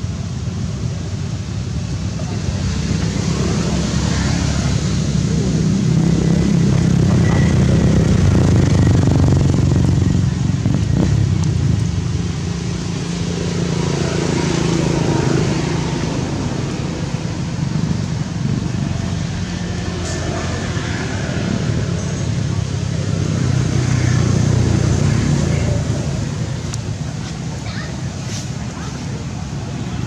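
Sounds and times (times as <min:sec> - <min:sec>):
passing traffic engines: 0:00.0 - 0:30.0.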